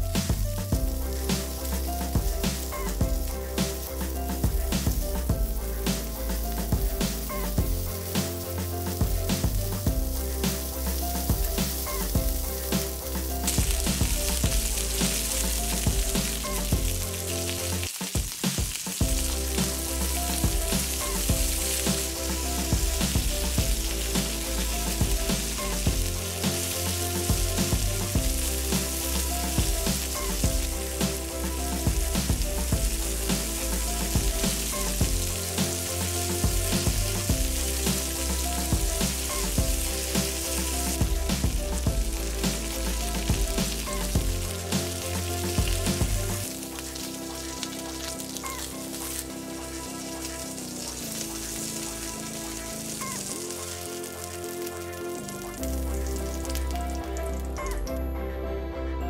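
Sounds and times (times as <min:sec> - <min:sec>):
background music with bass: 0:00.0 - 0:17.9, 0:19.0 - 0:59.0
chicken wings sizzling in oil: 0:00.0 - 0:57.8.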